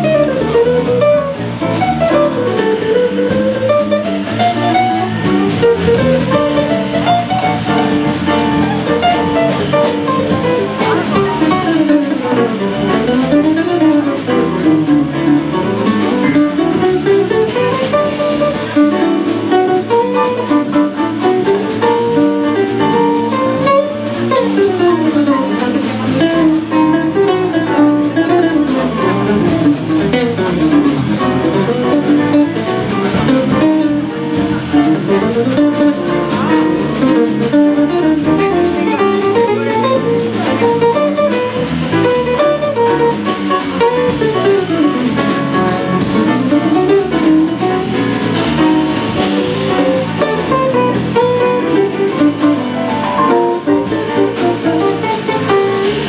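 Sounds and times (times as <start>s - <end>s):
drum kit: 0.0s - 56.0s
electric bass: 0.0s - 56.0s
electric guitar melody: 0.0s - 56.0s
piano: 0.0s - 56.0s.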